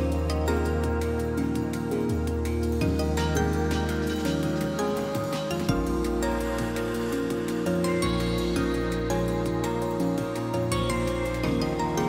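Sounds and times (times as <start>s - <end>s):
instrumental music with light beat: 0.0s - 12.0s.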